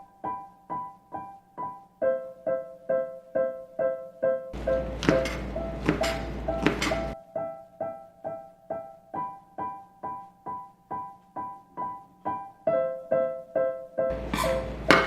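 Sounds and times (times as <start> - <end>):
piano single notes: 0.0 - 15.0.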